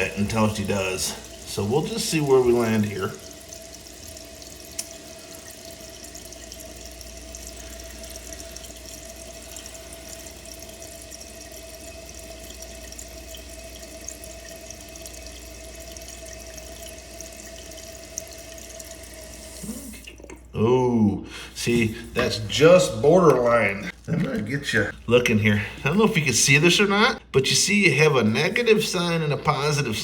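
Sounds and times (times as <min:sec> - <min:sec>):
water dripping: 0:00.0 - 0:21.0, 0:21.6 - 0:27.2
fill valve hum: 0:00.0 - 0:30.0
water rushing into toilet tank: 0:00.0 - 0:30.0.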